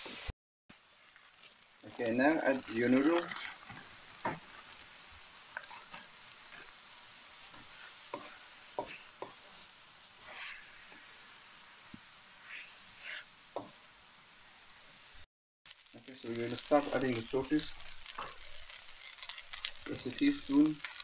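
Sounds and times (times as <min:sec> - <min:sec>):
food sizzling in a wok: 0:00.0 - 0:21.0
utensil scraping a wok: 0:01.0 - 0:13.4, 0:16.3 - 0:21.0.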